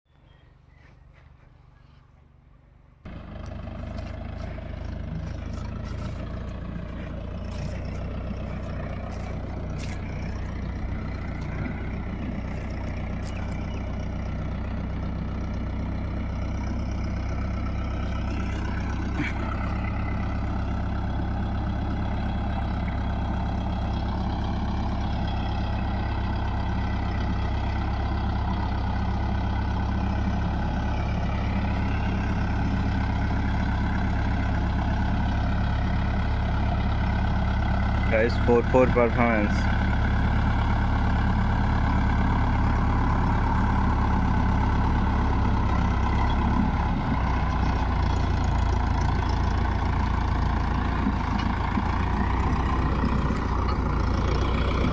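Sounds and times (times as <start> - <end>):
tractor diesel engine running: 0.1 - 54.9.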